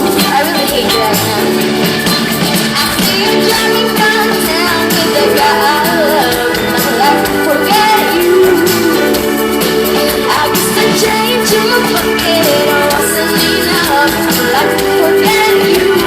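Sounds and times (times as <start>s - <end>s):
person singing: 0.0s - 1.6s, 2.6s - 16.0s
pop band playing live: 0.0s - 16.0s.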